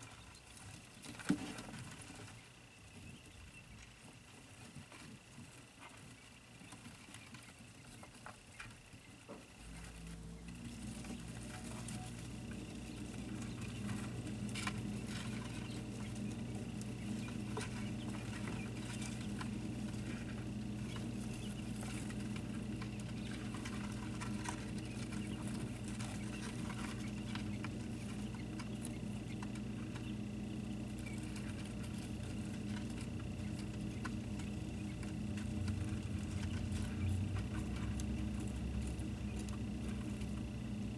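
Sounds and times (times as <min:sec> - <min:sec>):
chicks pattering and pecking: 0:00.0 - 0:40.9
low mechanical hum: 0:00.0 - 0:40.9.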